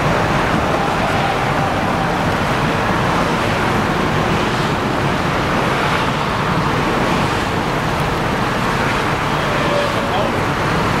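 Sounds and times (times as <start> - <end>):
road traffic noise: 0.0 - 11.0
truck engine rumble: 0.0 - 11.0.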